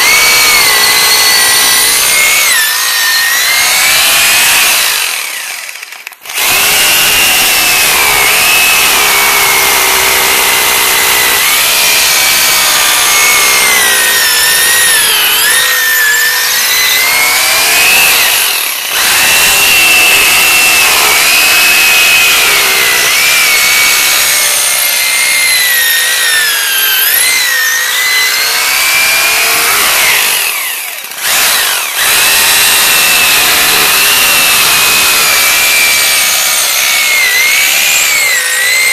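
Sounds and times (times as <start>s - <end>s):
power drill boring into concrete: 0.0s - 38.9s.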